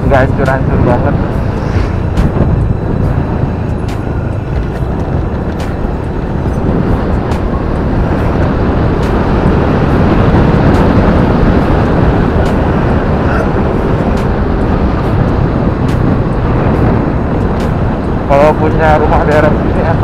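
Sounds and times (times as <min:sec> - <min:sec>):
motorcycle engine running: 0:00.0 - 0:18.2
wind rushing over microphone: 0:00.0 - 0:20.0.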